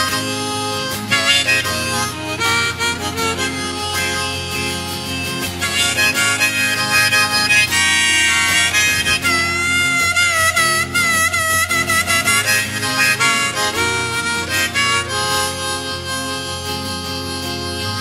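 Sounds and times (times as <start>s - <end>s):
acoustic guitar: 0.0s - 18.0s
harmonica melody with vibrato: 0.0s - 18.0s.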